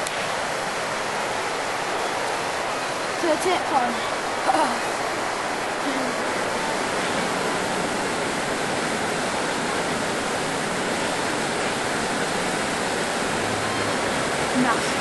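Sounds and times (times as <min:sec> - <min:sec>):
waterfall rushing over rock: 0:00.0 - 0:15.0.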